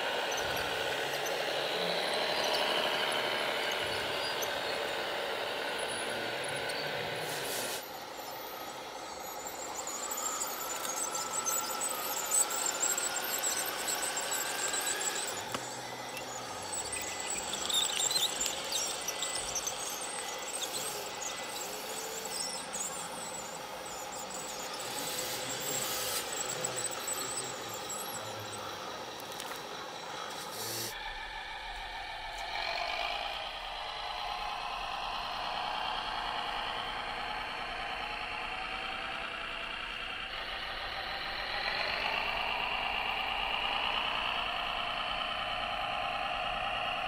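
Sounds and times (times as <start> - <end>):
small electric motors whining: 0.0 - 47.0.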